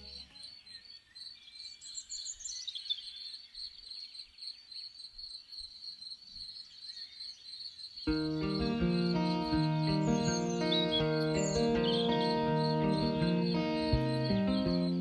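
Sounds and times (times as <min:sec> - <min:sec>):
bird singing: 0:00.0 - 0:15.0.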